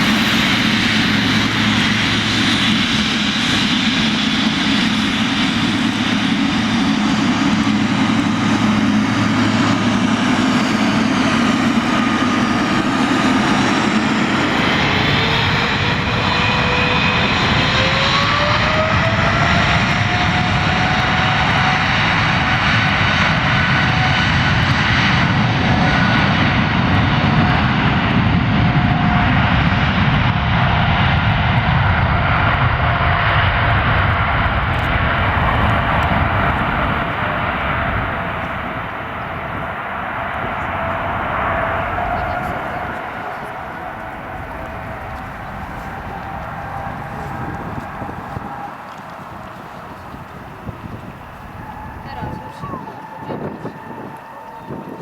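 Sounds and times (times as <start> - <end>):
jet engines spooling up: 0.0 - 55.0.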